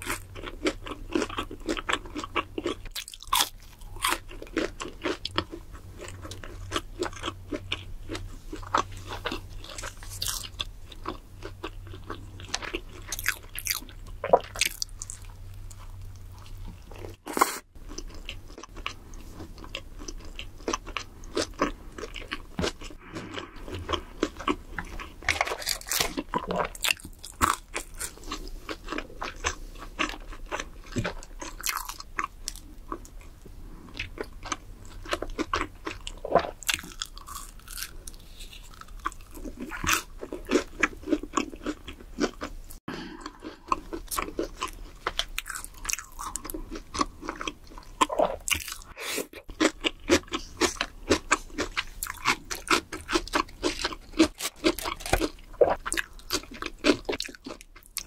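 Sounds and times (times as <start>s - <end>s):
crunchy bites and chewing: 0.0s - 58.0s.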